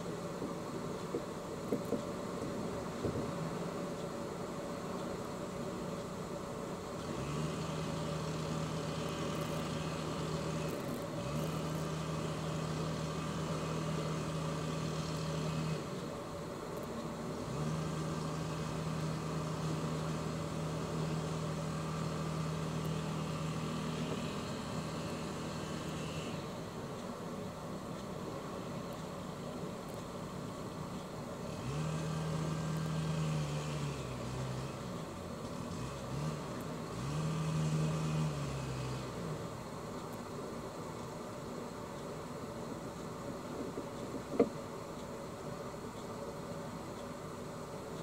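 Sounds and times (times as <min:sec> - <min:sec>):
boat engine humming: 0:00.0 - 0:48.0.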